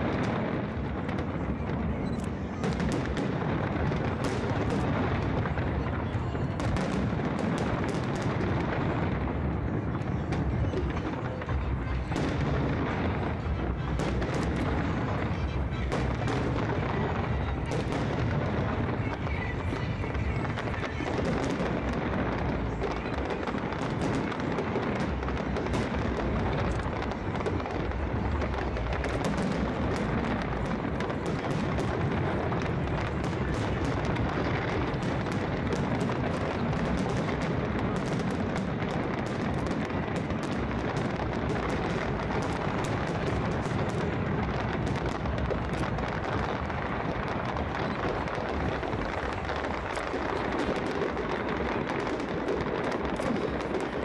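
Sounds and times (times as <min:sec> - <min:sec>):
continuous rumble: 0:00.0 - 0:54.0
fireworks bangs and crackling: 0:00.0 - 0:54.0.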